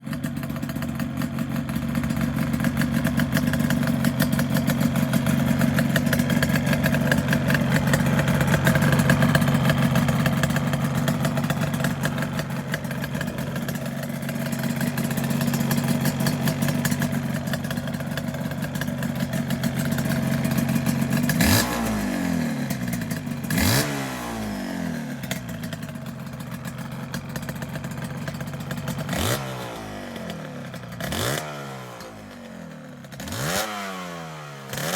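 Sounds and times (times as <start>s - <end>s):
motorcycle engine revving: 0.0s - 34.9s
two-stroke motorcycle engine idling: 0.0s - 34.9s.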